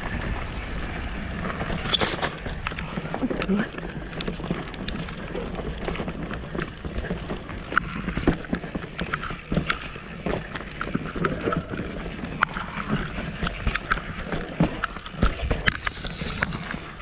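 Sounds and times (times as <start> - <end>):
bike clattering over bumps: 0.0 - 17.0
bike tyres rolling on dirt: 0.0 - 17.0.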